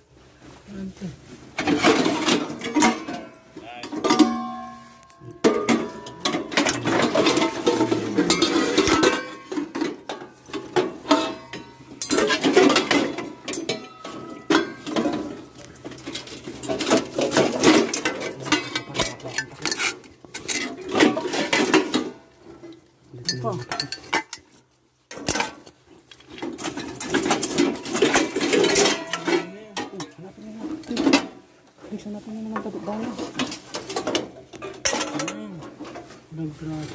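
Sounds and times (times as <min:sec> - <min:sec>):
metal pots and lids clanking: 0:01.5 - 0:36.3.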